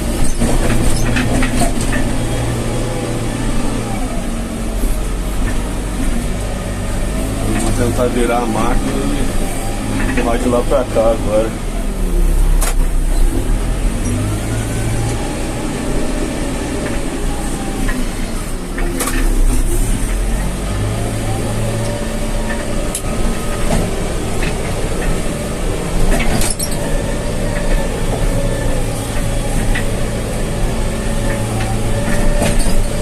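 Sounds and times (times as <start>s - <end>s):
diesel engine running hard: 0.0s - 33.0s.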